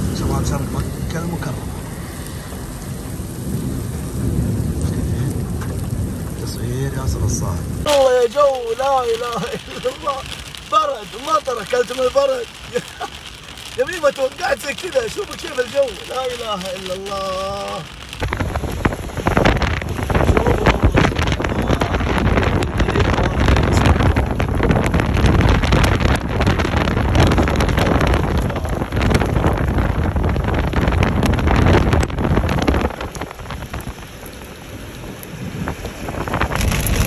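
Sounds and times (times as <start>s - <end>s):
hail and rain drumming on a car: 0.0s - 37.0s
rushing wind: 0.0s - 37.0s.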